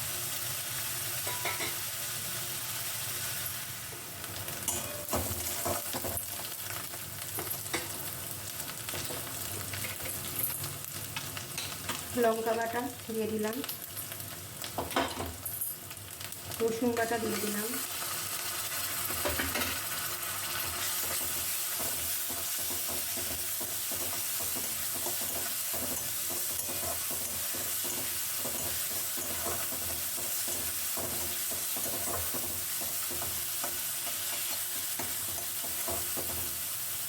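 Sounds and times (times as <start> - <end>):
onion frying in hot oil: 0.0 - 37.0.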